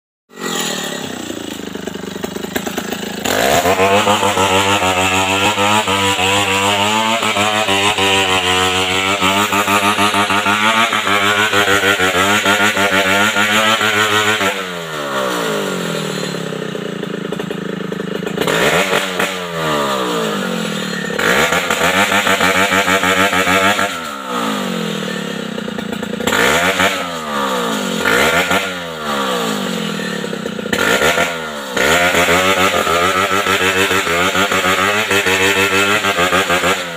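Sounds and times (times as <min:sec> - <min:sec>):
chainsaw cutting and revving: 0:00.3 - 0:36.9.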